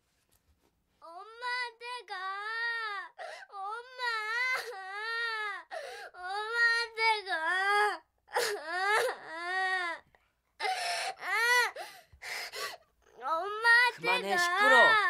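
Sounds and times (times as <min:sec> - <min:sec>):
girl wailing and sobbing: 0:01.0 - 0:15.0.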